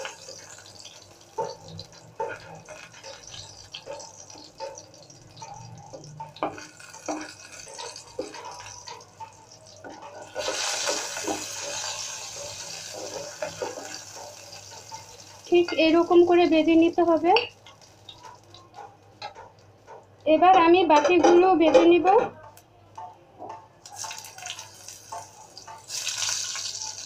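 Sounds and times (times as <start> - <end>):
food sizzling in hot oil: 0.0 - 20.0, 23.8 - 27.0
spatula knocking and scraping pan: 0.0 - 22.4.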